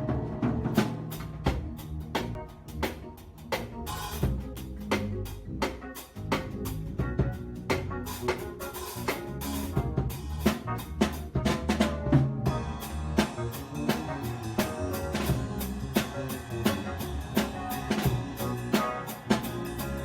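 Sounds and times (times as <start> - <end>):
drum kit playing busy beat: 0.0 - 20.0
sustained bass: 0.0 - 20.0.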